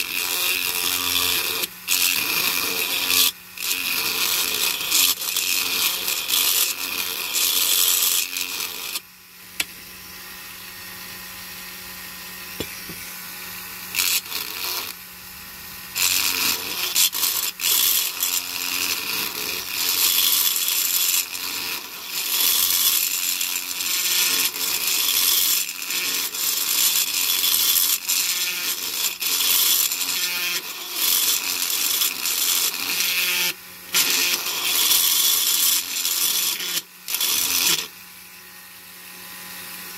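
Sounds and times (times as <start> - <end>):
rotary tool grinding metal: 0.0 - 9.1, 13.8 - 15.1, 15.9 - 38.0
rotary tool motor humming: 0.0 - 9.1, 12.5 - 38.0.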